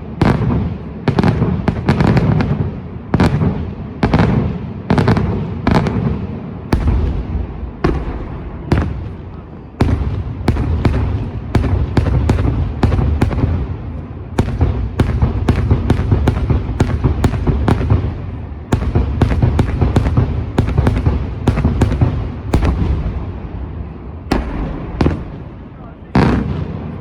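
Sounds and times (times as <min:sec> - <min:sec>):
fireworks banging: 0:00.0 - 0:27.0
low rumble of reports: 0:00.0 - 0:27.0.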